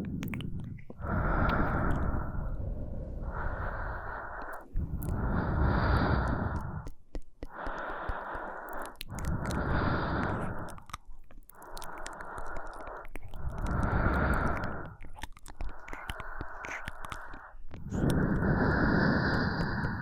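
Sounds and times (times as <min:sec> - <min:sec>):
slow breathing into microphone: 0:00.0 - 0:20.0.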